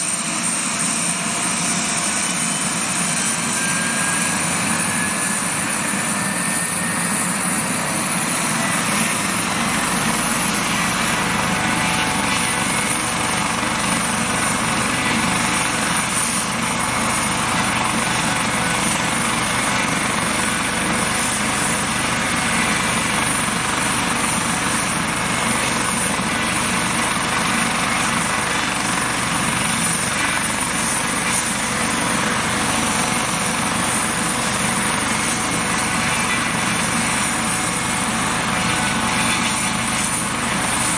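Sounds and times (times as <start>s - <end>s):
helicopter rotor and engine: 0.0s - 40.9s
high-pitched turbine whine: 0.0s - 40.9s.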